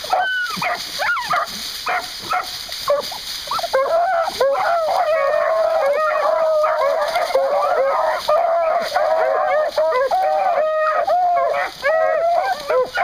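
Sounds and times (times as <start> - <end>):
dog baying: 0.0 - 13.0
dogs yipping and yelping: 0.0 - 13.0.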